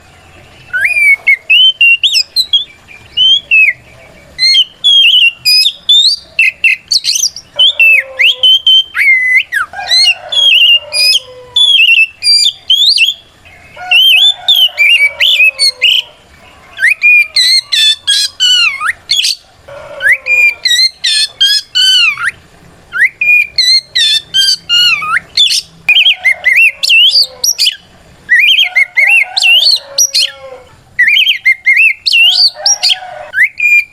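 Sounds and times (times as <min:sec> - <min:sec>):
bird singing whistles: 0:00.6 - 0:16.1, 0:16.8 - 0:19.4, 0:20.0 - 0:30.4, 0:31.0 - 0:33.9.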